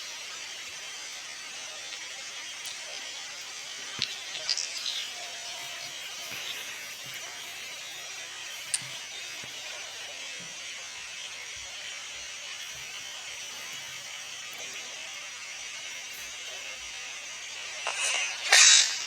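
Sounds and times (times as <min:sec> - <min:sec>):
steady buzzing hiss: 0:00.0 - 0:19.0.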